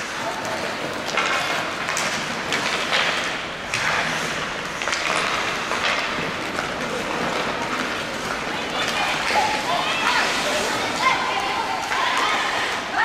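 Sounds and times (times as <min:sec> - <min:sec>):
skates scraping across ice: 0:00.0 - 0:13.0.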